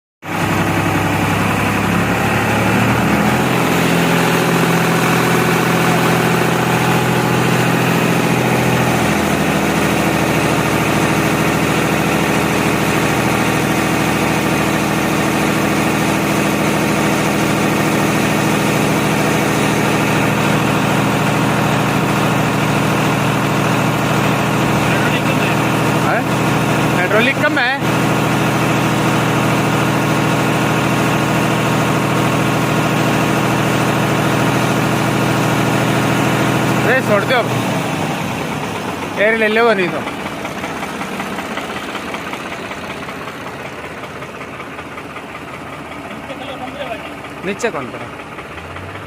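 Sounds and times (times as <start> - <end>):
tractor engine running: 0.2 - 49.0.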